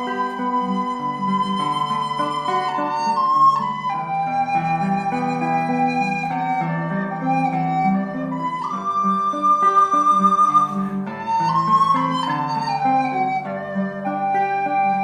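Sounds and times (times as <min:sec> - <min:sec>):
flute-like melody: 0:00.0 - 0:15.0
soft sustained accompaniment: 0:00.0 - 0:15.0.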